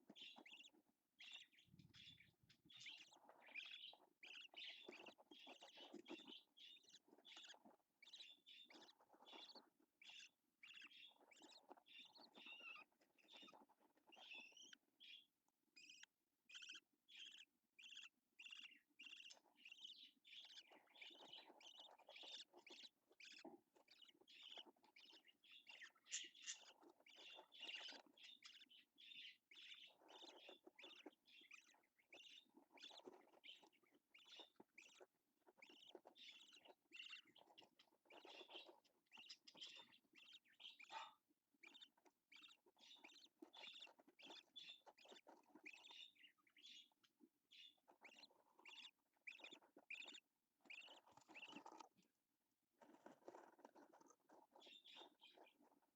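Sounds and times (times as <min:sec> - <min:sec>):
budgerigar chirping: 0:00.0 - 0:51.9, 0:52.8 - 0:55.8.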